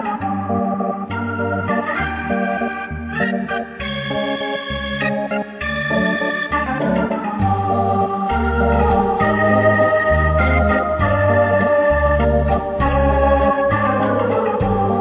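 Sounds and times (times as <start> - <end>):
background music with bass: 0.0 - 15.0.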